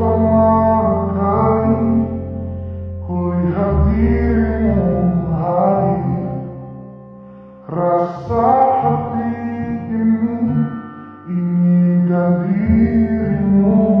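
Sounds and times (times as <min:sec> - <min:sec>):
slow song with held notes: 0:00.0 - 0:14.0.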